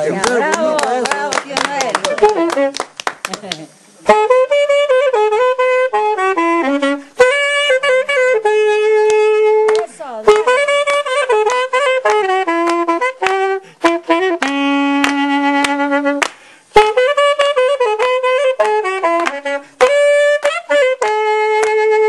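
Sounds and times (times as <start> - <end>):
solo saxophone melody: 1.6 - 2.9, 4.0 - 22.0.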